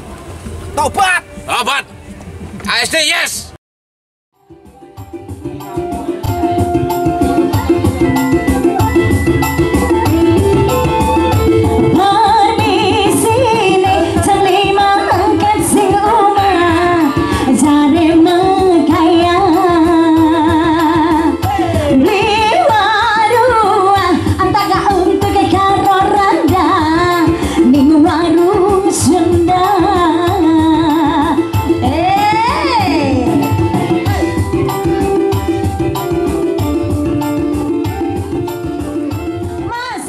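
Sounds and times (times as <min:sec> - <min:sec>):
keyboard and drums: 0:00.0 - 0:03.6, 0:04.4 - 0:40.0
woman singing: 0:05.6 - 0:37.8.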